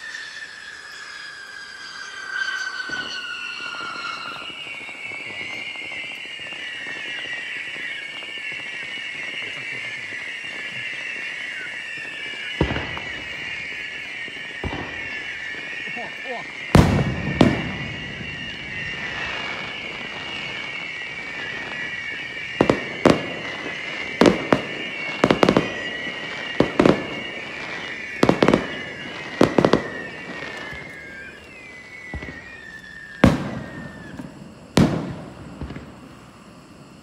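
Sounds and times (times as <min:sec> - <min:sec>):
high wavering whistling: 0:00.0 - 0:34.8
firework booms: 0:01.8 - 0:37.0.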